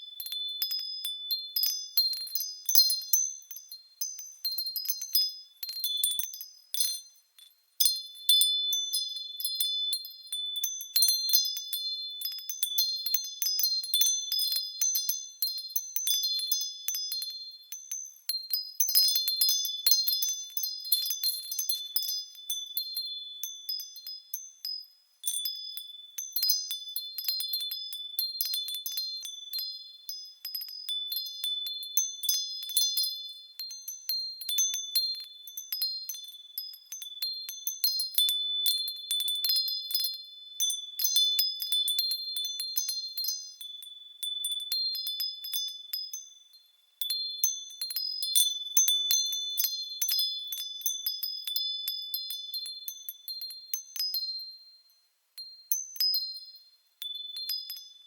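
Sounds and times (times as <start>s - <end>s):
wind chimes ringing: 0.0s - 7.2s, 7.8s - 58.0s.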